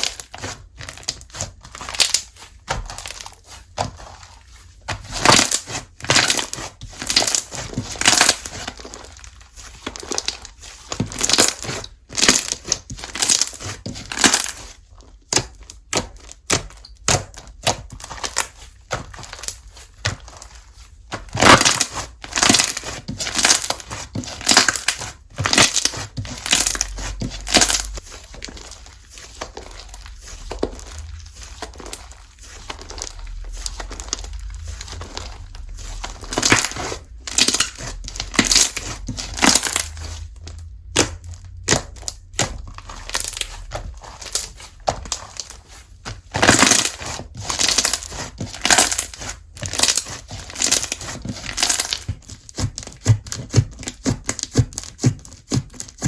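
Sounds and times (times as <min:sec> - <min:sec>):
slime crackling and popping: 0:00.0 - 0:56.0.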